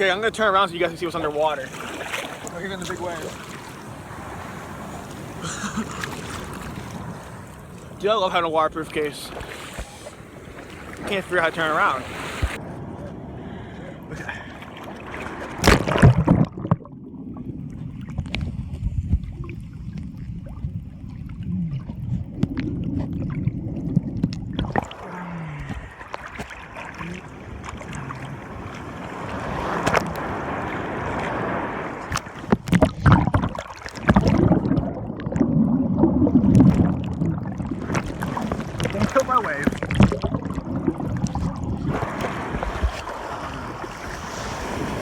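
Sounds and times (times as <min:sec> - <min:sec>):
muffled ocean surf underwater: 0:00.0 - 0:45.0.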